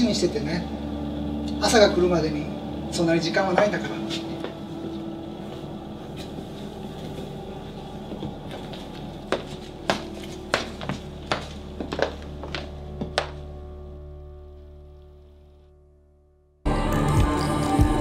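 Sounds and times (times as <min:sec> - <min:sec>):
steady low hum: 0:00.0 - 0:15.8.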